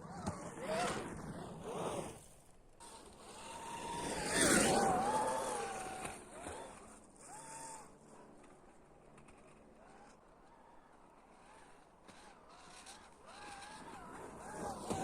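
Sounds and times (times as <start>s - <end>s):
electric motorbike whine: 2.8s - 15.0s.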